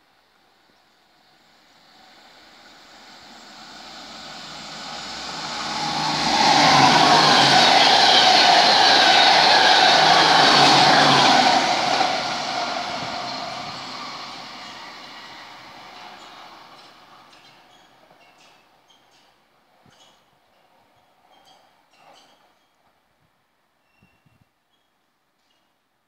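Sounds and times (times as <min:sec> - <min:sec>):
passing train wheels on rail: 0:01.2 - 0:23.0.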